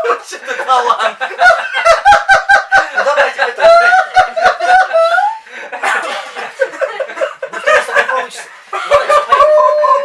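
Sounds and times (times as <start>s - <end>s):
people laughing and chattering: 0.0s - 10.0s.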